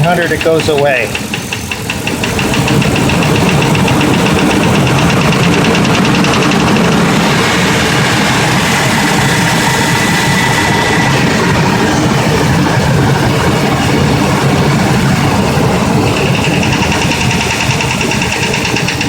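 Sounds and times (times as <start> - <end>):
engine idling: 0.0 - 19.0
pulsing higher sound: 2.3 - 19.0.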